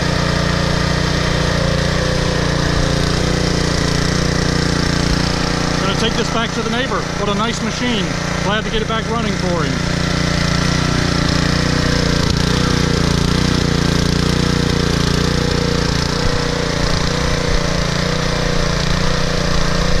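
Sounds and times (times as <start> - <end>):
tiller engine running: 0.0 - 20.0.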